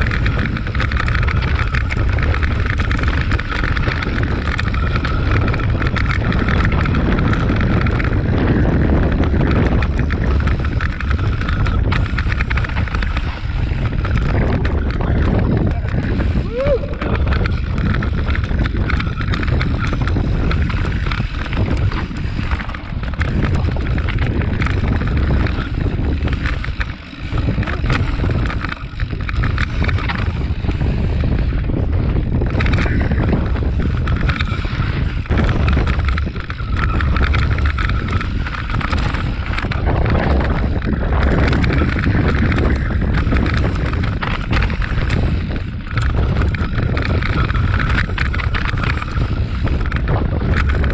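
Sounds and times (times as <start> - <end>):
bike knocks and rattles: 0.0 - 50.9
tyres rolling on gravel: 0.0 - 50.9
wind buffeting microphone: 0.0 - 50.9.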